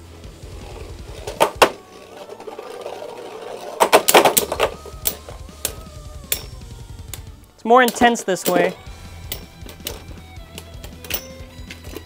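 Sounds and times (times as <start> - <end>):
high whine of spinning tops: 0.1 - 11.5
clattering hits: 0.5 - 6.6, 7.8 - 12.0
spinning tops clacking: 0.6 - 6.6, 7.8 - 12.0.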